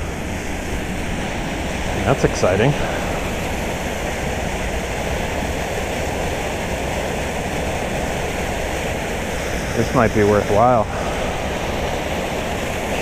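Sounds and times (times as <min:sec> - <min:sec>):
water rushing through culvert: 0:00.0 - 0:13.0.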